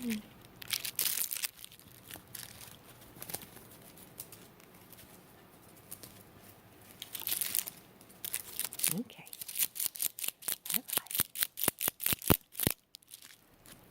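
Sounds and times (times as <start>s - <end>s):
rustling and crinkling: 0.0s - 13.9s.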